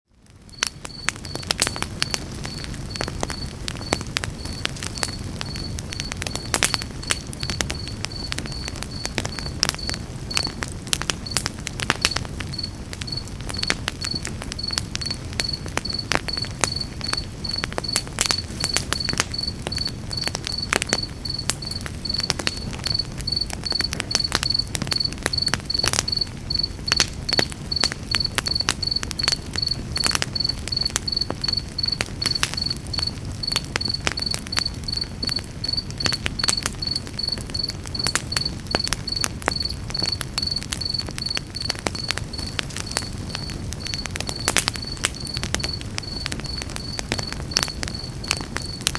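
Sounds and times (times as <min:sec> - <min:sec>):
campfire crackling and popping: 0:00.1 - 0:48.9
cricket chirping: 0:00.5 - 0:48.9.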